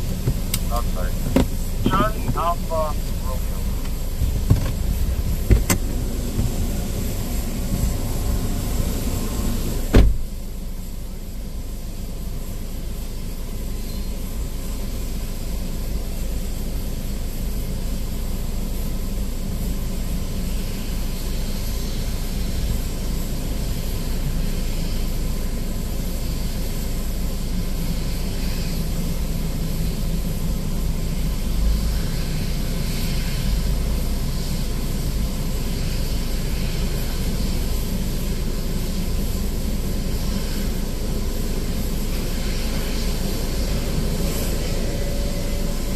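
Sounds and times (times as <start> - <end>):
jet aircraft rumble and hiss: 0.0 - 45.9.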